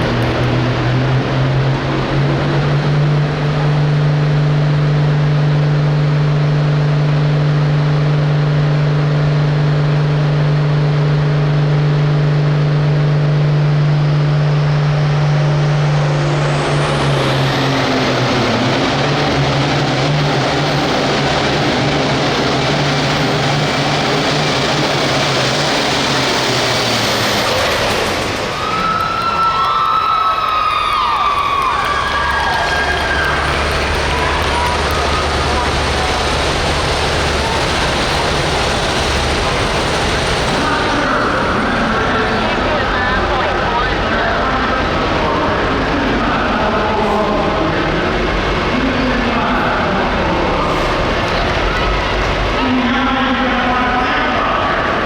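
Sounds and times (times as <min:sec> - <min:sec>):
tractor diesel engine running flat out: 0:00.0 - 0:55.0.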